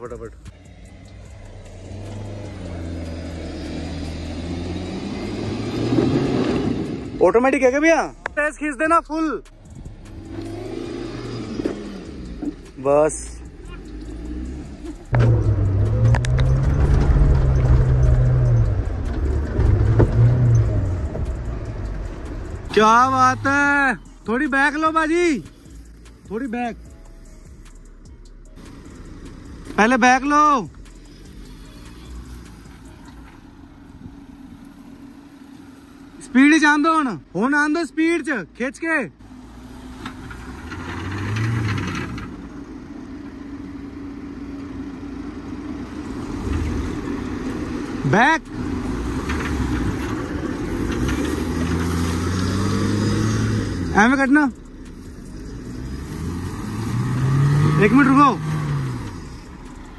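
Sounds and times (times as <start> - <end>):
off-road vehicle engine drone: 0.0 - 59.9.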